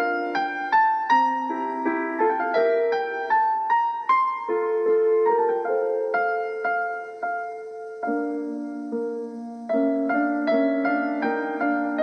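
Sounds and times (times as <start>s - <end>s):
solo piano melody: 0.0s - 12.0s.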